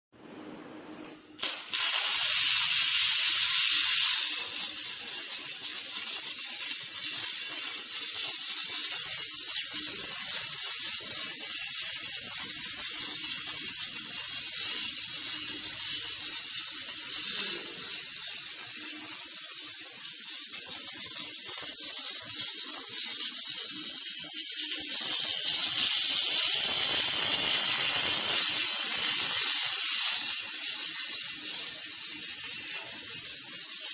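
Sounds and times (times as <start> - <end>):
welding arc crackling and hissing: 1.4 - 33.9.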